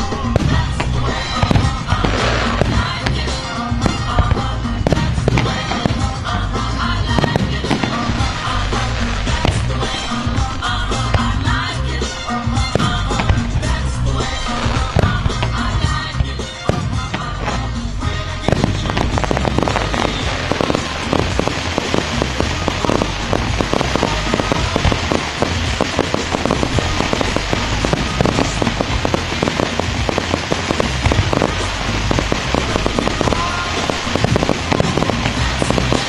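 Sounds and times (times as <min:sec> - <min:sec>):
fireworks bangs and pops: 0:00.0 - 0:36.0.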